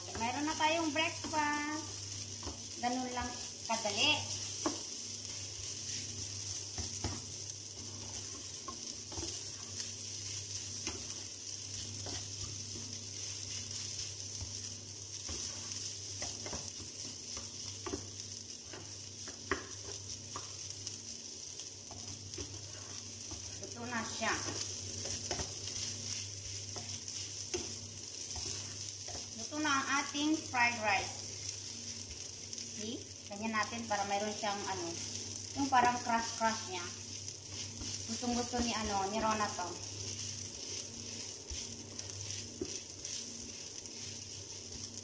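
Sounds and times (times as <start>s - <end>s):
spatula scraping and tapping pan: 0.0s - 32.8s, 33.7s - 45.0s
rice sizzling in a frying pan: 0.0s - 45.0s.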